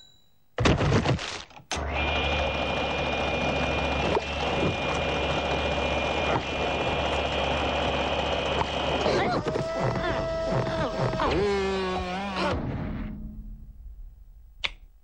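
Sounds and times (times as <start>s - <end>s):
machine humming with high whine: 1.7s - 14.8s.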